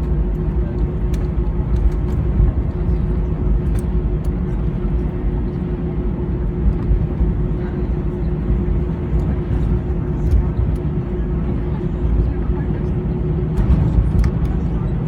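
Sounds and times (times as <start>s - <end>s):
airliner cabin rumble: 0.0s - 15.0s
constant hum: 0.0s - 15.0s.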